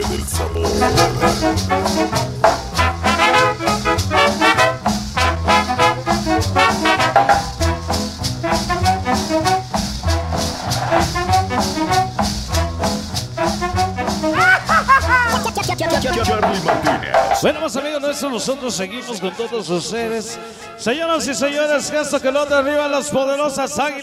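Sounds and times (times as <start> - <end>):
salsa music with horns: 0.0 - 19.4.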